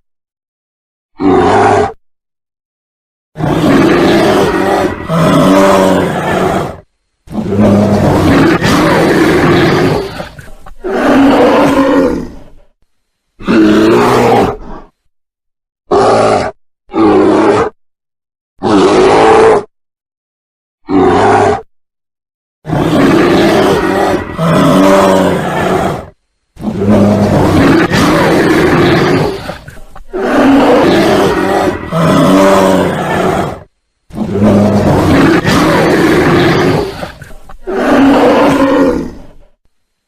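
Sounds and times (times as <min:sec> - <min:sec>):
bear roaring: 0:01.2 - 0:02.0, 0:03.4 - 0:12.7, 0:13.4 - 0:15.0, 0:15.9 - 0:17.8, 0:18.6 - 0:19.7, 0:20.8 - 0:21.7, 0:22.6 - 0:39.6.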